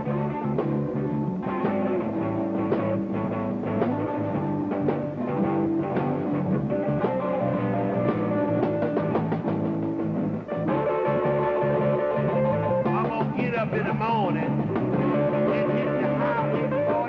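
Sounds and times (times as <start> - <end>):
electric blues band playing: 0.0 - 17.0.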